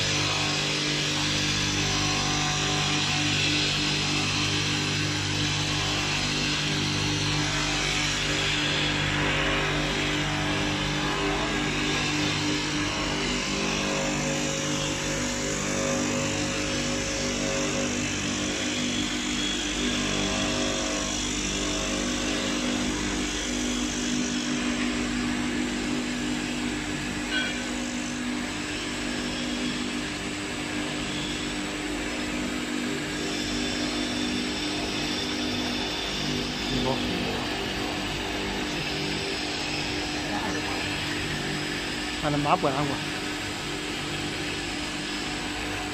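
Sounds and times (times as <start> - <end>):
electric motors humming: 0.0 - 45.9.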